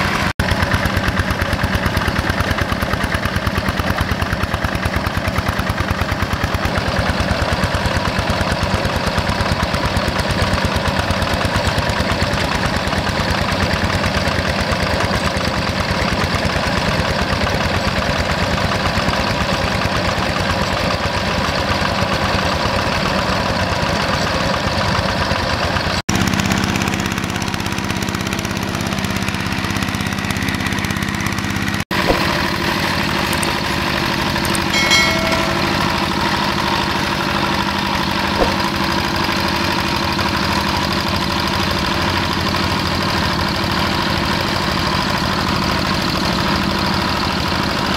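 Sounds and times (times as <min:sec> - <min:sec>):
diesel engine running: 0:00.0 - 0:34.7, 0:36.0 - 0:47.9.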